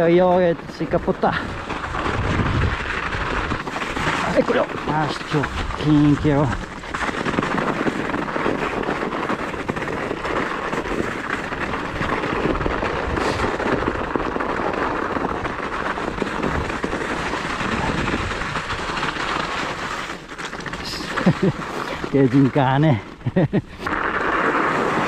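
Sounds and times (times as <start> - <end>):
bike tyres crunching over snow: 0.0 - 25.0.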